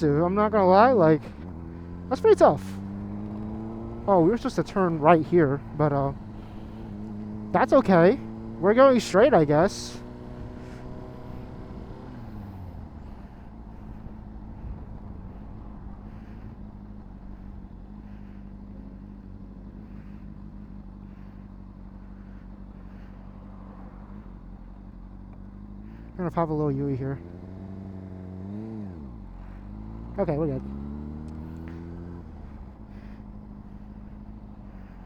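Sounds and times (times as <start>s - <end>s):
motorcycle engine while riding: 0.0s - 35.0s.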